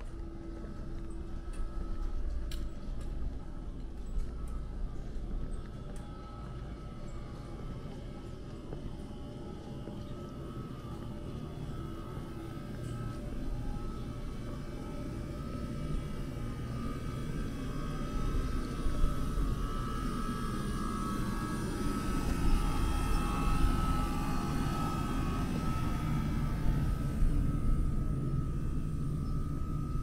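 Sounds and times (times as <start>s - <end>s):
airplane passing overhead: 0.0s - 30.0s.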